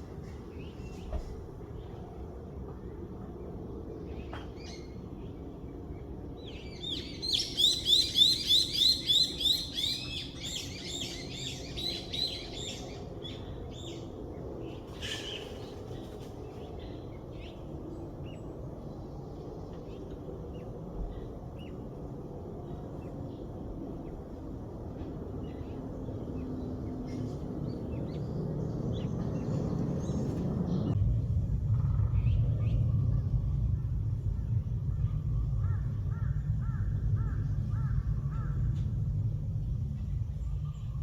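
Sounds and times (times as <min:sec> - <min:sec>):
songbird singing: 0:00.0 - 0:41.0.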